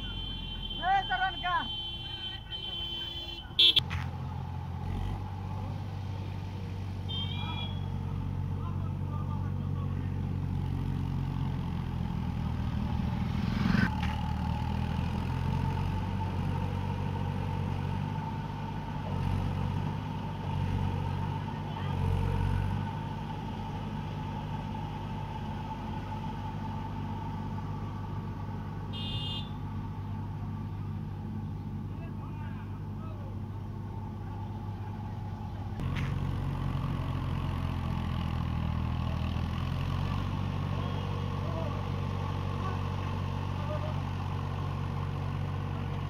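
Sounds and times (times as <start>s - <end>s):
diesel tractor engines running: 0.0s - 46.0s.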